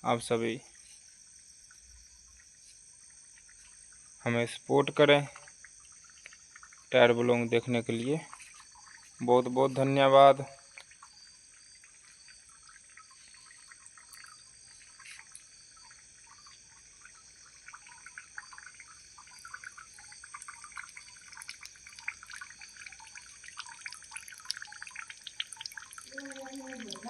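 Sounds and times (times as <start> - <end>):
night insects trilling: 0.0 - 27.0
insect clicks and chirps: 0.4 - 27.0.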